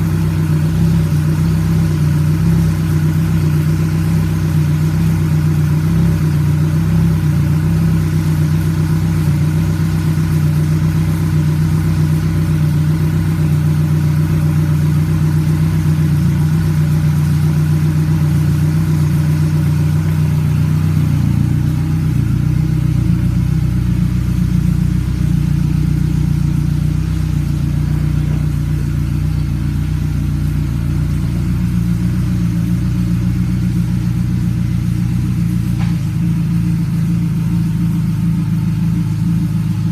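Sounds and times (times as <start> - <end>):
outboard motor idling: 0.0 - 39.9.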